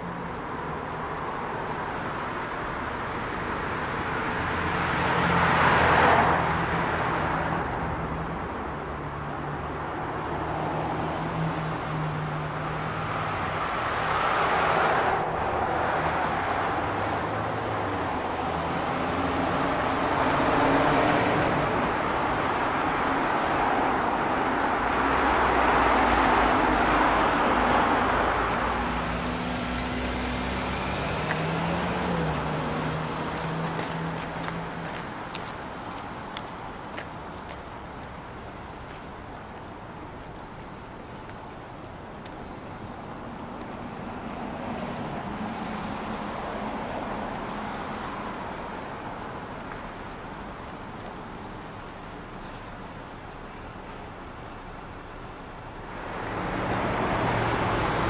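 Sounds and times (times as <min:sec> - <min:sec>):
low engine hum: 0:00.0 - 0:58.0
vehicles passing: 0:00.0 - 0:58.0.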